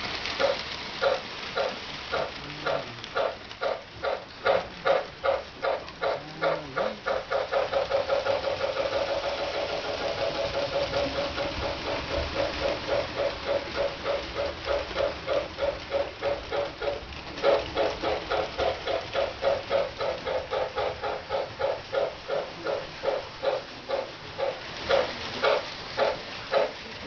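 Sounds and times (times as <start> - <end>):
model steam locomotive chuffing: 0.0 - 27.0.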